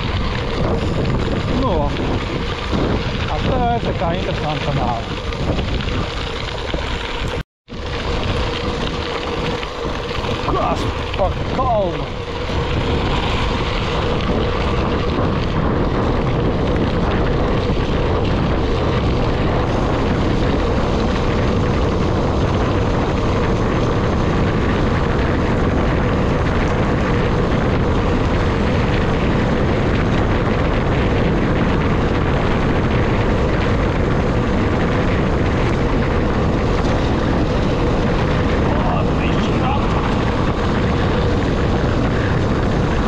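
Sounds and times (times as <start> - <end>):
wind roaring over microphone: 0.0 - 43.0.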